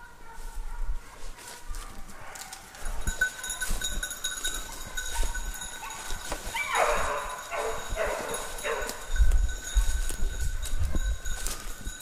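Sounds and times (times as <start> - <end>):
hound baying: 0.0 - 11.8
footsteps in dry leaves: 0.4 - 12.0.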